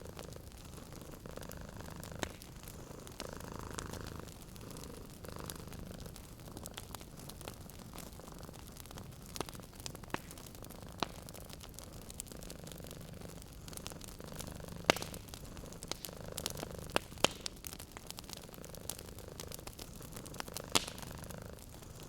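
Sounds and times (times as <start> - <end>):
cat purring: 0.0 - 22.0
wood fire crackling: 0.0 - 22.0.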